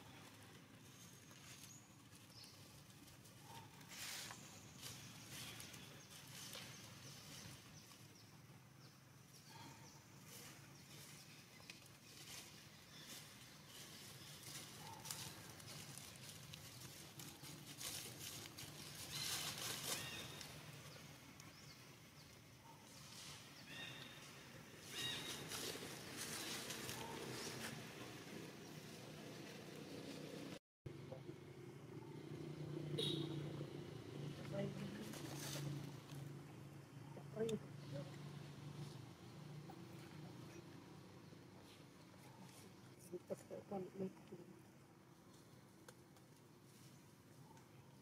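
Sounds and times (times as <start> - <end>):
low steady outdoor background: 0.0 - 48.0.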